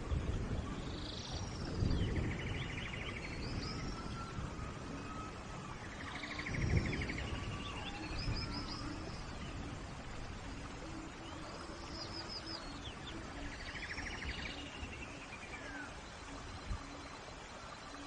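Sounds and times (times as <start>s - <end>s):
steady rain: 0.0s - 18.0s
birds chirping: 0.2s - 18.0s.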